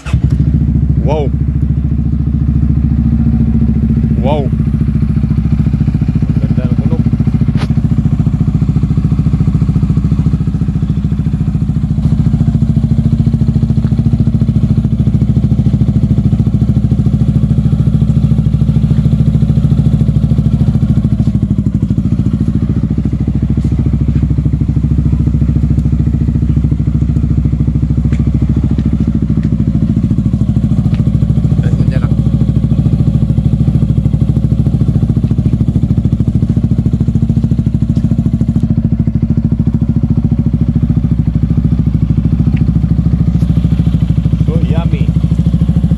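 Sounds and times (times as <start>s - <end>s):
scooter engine running: 0.0s - 45.9s.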